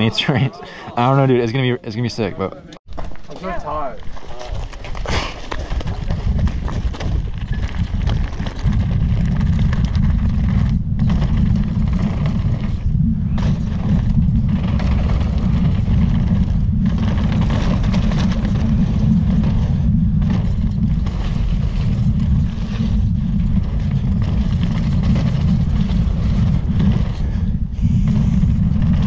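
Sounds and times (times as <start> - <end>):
tyres rolling on gravel: 2.9 - 27.4
wind buffeting microphone: 4.4 - 29.0.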